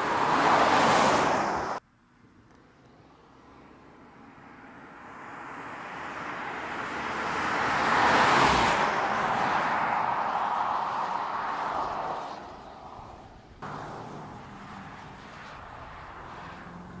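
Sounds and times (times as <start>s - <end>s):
car driving past: 3.0s - 17.0s.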